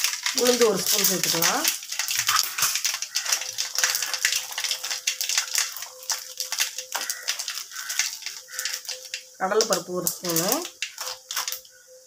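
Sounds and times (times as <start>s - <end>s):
seeds popping in hot oil: 0.0s - 12.0s.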